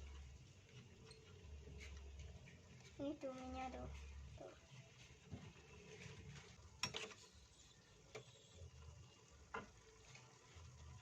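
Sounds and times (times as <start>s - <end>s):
stirring noodles in frying pan: 0.0s - 11.0s.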